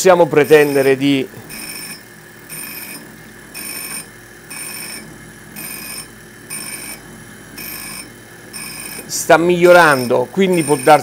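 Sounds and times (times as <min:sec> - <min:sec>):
surface grinder running: 0:00.0 - 0:11.0
high-pitched ringing hiss: 0:00.3 - 0:07.0, 0:07.6 - 0:11.0.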